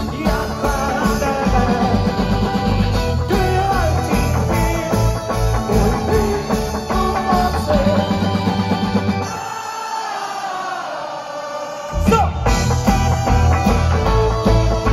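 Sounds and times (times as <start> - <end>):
live rock band playing: 0.0 - 9.8, 12.0 - 14.9.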